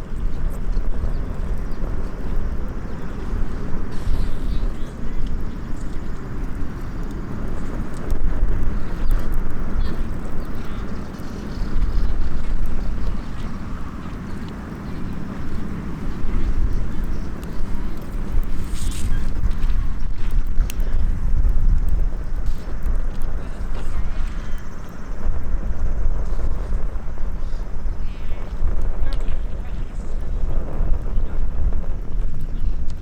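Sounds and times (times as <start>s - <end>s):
wood fire ticks: 0.0s - 27.2s
wind buffeting microphone: 0.0s - 33.0s.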